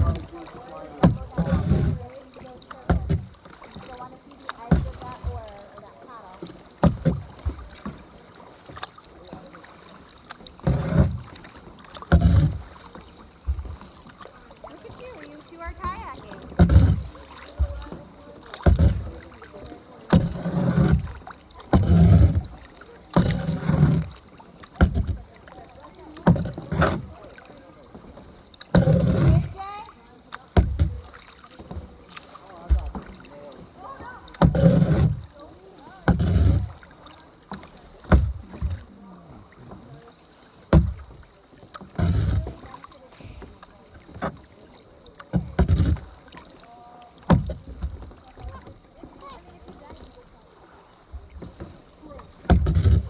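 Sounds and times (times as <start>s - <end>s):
paddle strokes in water: 0.0s - 53.0s.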